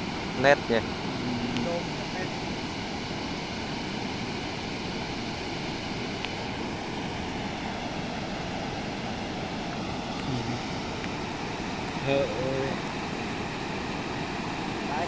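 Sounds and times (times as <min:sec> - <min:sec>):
waterfall and river roaring: 0:00.0 - 0:15.0.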